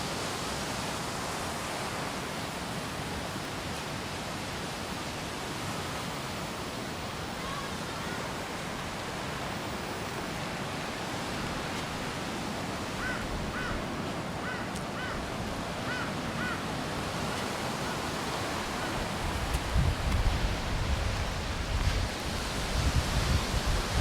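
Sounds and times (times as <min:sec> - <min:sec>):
rain: 0:00.0 - 0:24.0
surf breaking on a beach: 0:00.0 - 0:24.0
wind: 0:00.0 - 0:24.0.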